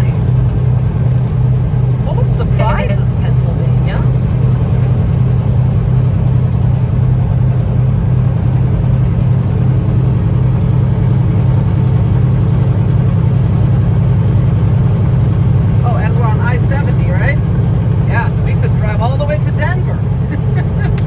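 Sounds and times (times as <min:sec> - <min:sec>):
road noise: 0:00.0 - 0:21.0
truck diesel engine drone: 0:00.0 - 0:21.0.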